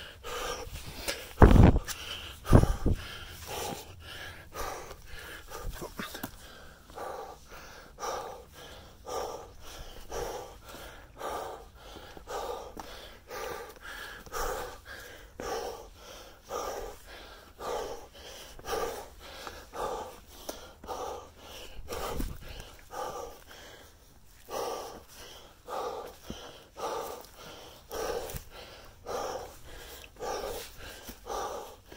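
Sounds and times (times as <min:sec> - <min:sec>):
hard rhythmic breathing: 0:00.0 - 0:31.9.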